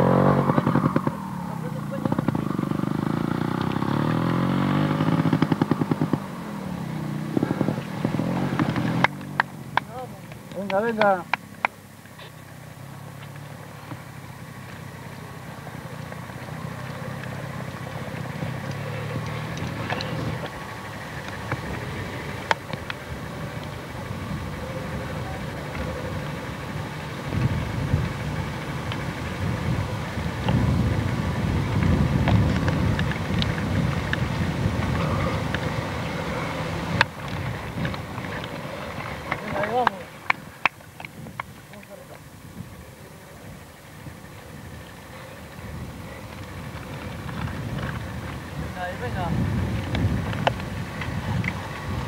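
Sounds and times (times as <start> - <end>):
wind buffeting microphone: 0.0 - 11.3, 16.6 - 52.0
engine humming: 0.0 - 52.0.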